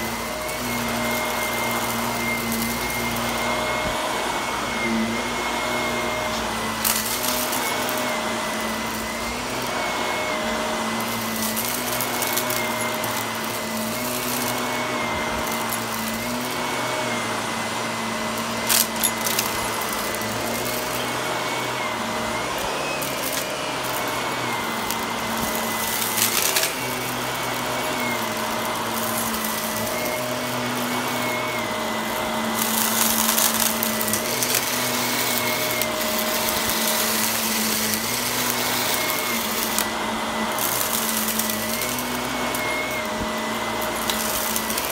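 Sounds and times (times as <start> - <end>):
vacuum cleaner motor whine: 0.0 - 44.9.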